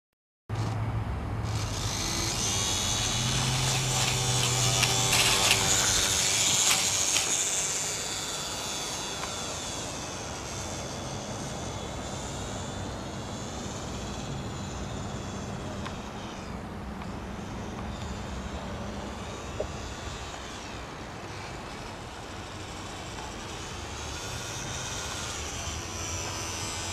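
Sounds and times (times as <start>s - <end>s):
model airplane motor whining: 1.4s - 26.9s.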